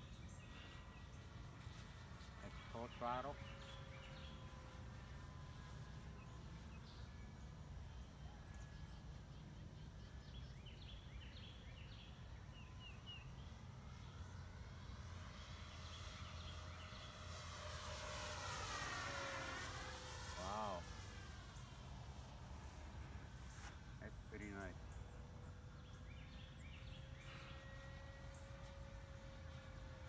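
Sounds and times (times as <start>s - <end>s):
model plane electric motor: 0.0s - 30.0s.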